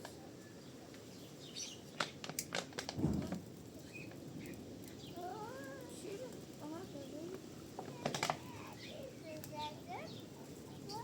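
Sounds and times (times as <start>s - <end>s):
birds chirping faintly: 0.0s - 2.5s, 3.3s - 11.0s
outdoor background noise: 0.0s - 11.0s.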